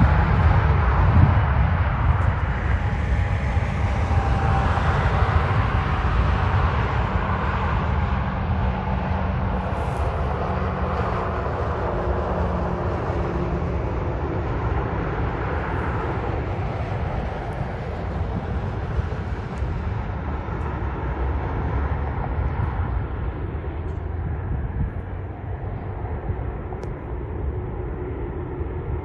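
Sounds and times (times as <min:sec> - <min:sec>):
jet engines rumbling on landing: 0:00.0 - 0:29.0.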